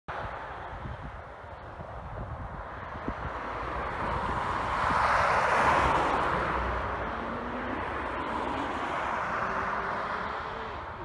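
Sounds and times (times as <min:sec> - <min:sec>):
vehicle tyre and road noise: 0:00.1 - 0:11.0.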